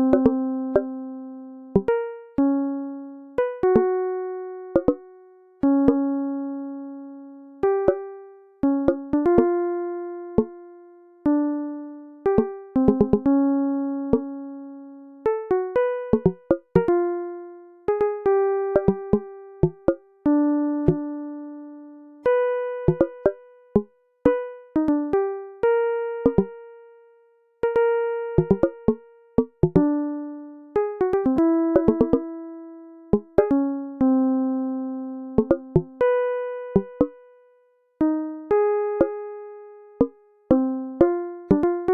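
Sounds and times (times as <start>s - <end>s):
sparse keyboard melody: 0.0s - 1.2s, 1.8s - 2.8s, 3.4s - 6.4s, 7.6s - 10.7s, 11.3s - 14.6s, 15.3s - 21.7s, 22.3s - 26.8s, 27.6s - 37.2s, 38.0s - 39.3s, 39.9s - 41.9s
slow instrumental music: 0.0s - 41.9s.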